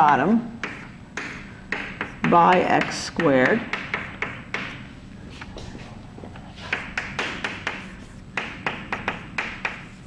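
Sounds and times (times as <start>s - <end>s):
chalk writing on a blackboard: 0.6s - 5.8s, 6.5s - 10.0s.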